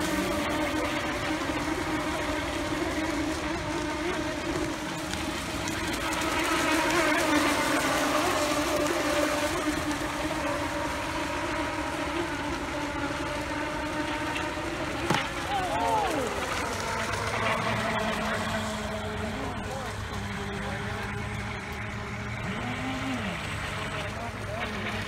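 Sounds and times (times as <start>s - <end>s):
electric motors whining: 0.0s - 25.0s
hulls and spray hissing on water: 0.0s - 25.0s.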